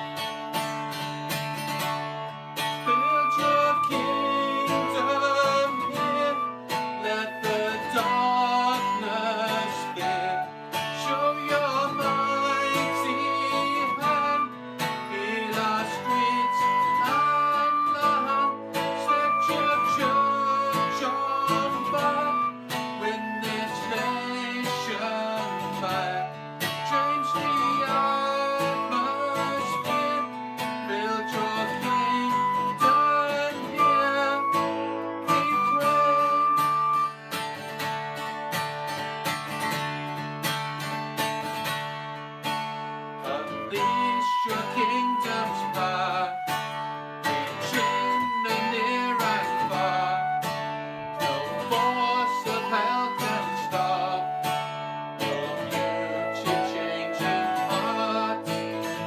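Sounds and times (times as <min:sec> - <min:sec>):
flute melody: 0:00.0 - 0:59.0
strummed acoustic guitar: 0:00.0 - 0:59.0.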